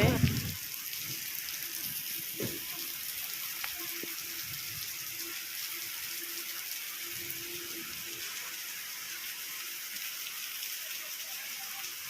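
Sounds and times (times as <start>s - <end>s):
rain on leaves: 0.0s - 12.0s.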